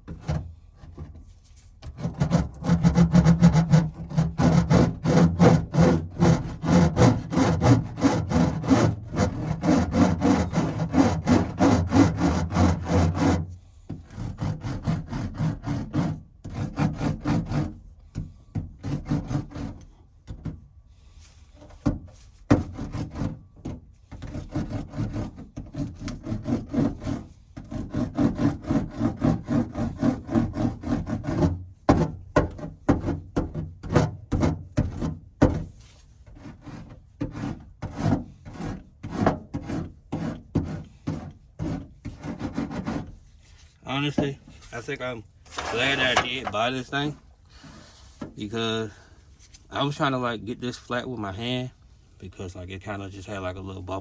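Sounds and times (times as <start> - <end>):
hand roller rubbing and rumbling: 0.0 - 20.6, 21.6 - 47.7.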